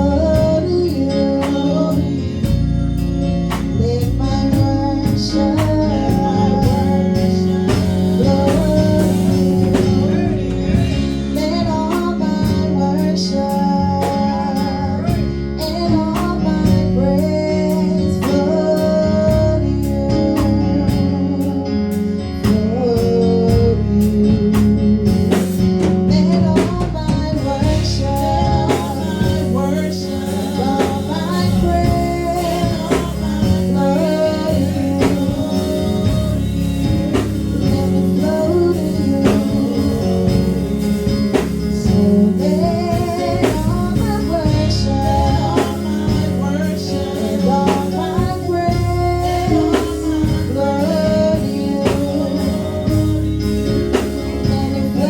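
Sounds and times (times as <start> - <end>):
gospel band playing: 0.0 - 55.0
person singing: 0.0 - 55.0.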